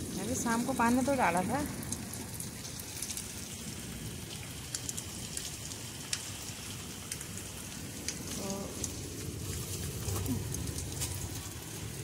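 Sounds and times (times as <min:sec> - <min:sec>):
rain on plants and concrete: 0:00.0 - 0:12.0.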